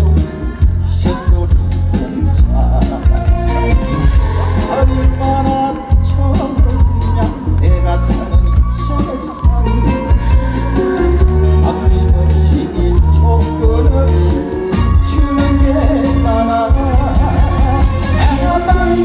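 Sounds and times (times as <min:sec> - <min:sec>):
backing music with heavy bass beat: 0:00.0 - 0:19.0
man singing into microphone: 0:00.0 - 0:19.0.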